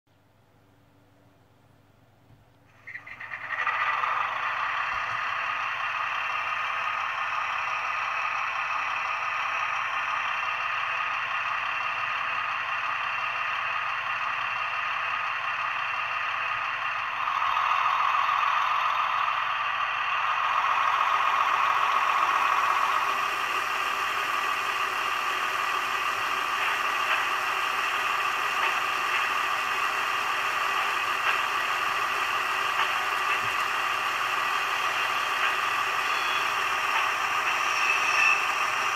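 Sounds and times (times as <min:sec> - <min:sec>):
model locomotive diesel engine sound: 0:00.1 - 0:38.9.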